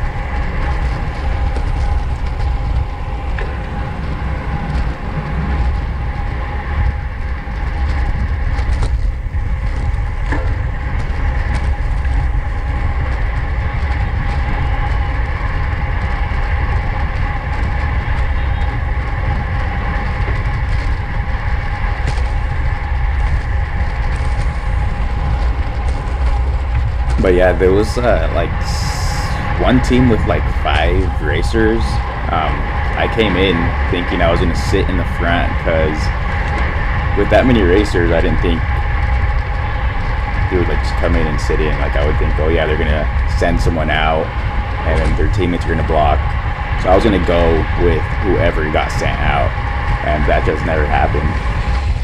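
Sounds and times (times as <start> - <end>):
bike road noise: 0.0 - 52.0
wind rush: 0.0 - 52.0.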